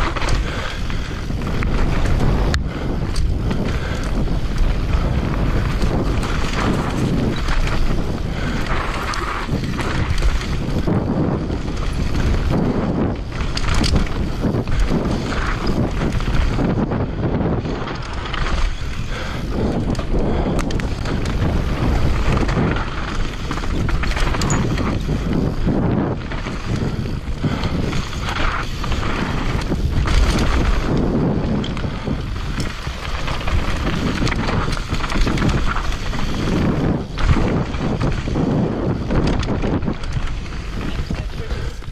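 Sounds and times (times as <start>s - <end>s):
bike knocking and rattling: 0.0s - 41.9s
bike tyres on rocky dirt: 0.0s - 41.9s
wind noise on microphone: 0.0s - 41.9s.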